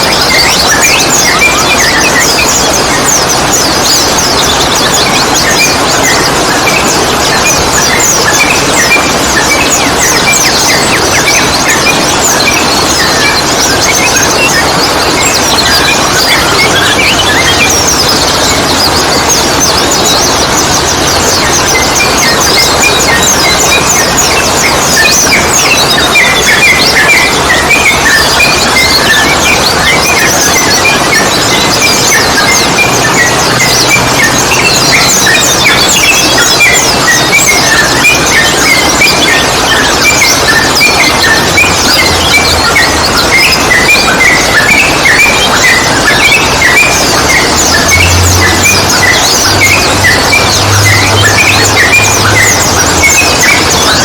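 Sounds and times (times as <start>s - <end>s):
chorus of small birds chirping: 0.0s - 54.0s
loud hiss-like background noise: 0.0s - 54.0s.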